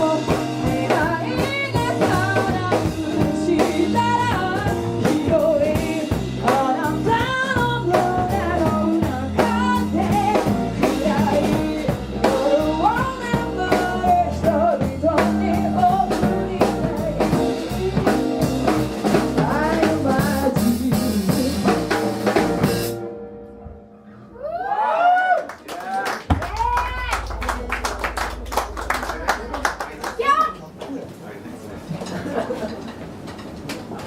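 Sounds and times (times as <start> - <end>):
band playing a song: 0.0 - 23.2, 26.2 - 30.6.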